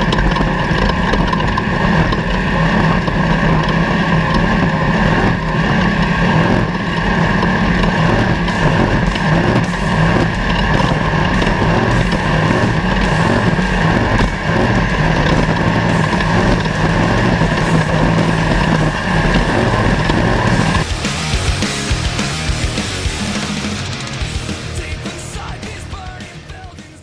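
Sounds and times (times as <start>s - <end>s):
constant rushing noise: 0.0s - 27.0s
race vehicle engine running: 0.0s - 27.0s.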